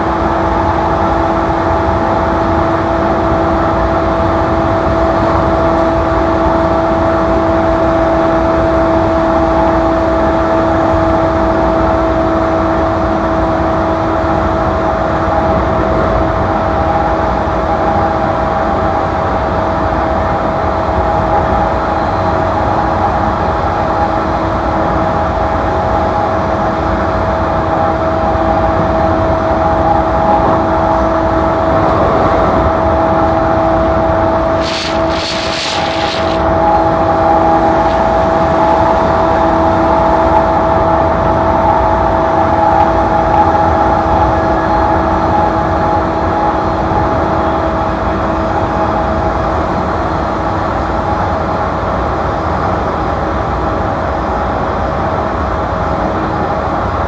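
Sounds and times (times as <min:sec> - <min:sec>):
electric train hum: 0:00.0 - 0:49.9
train wheels rumbling on rail: 0:00.0 - 0:50.6.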